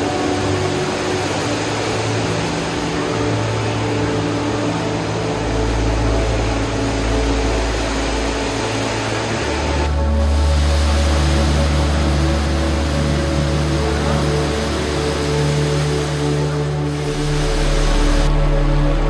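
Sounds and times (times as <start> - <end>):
water falling and splashing: 0.0 - 19.0.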